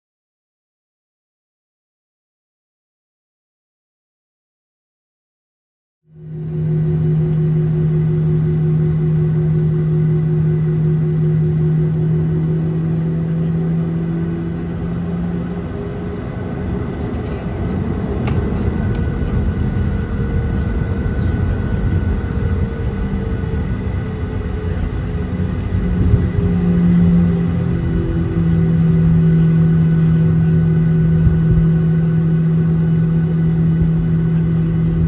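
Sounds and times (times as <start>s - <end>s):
rough engine rumble: 6.1s - 35.0s
jet engine cabin hum: 6.2s - 35.0s.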